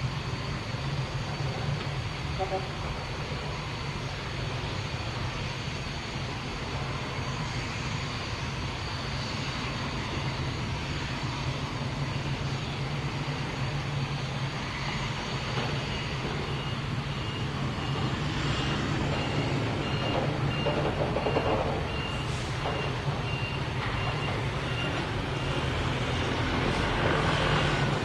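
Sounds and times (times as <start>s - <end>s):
large vehicle engine running: 0.0s - 28.0s
reversing alarm beeping: 0.0s - 28.0s.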